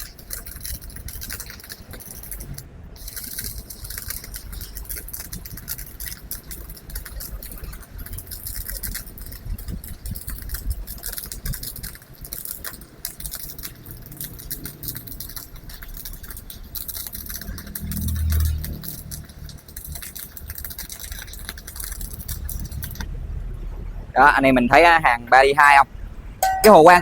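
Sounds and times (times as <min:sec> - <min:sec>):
welding arc crackling: 0:00.0 - 0:23.1.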